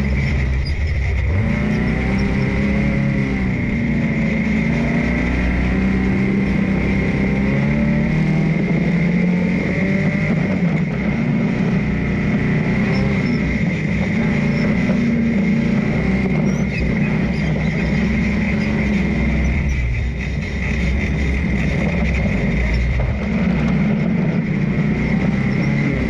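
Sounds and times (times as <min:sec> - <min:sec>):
dune buggy engine revving: 0:00.0 - 0:26.0.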